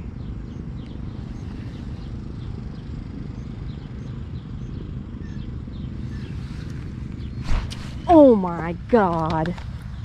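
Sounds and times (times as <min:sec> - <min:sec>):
faint bird chirps: 0:00.0 - 0:08.6
wind rumbling on microphone: 0:00.0 - 0:10.0.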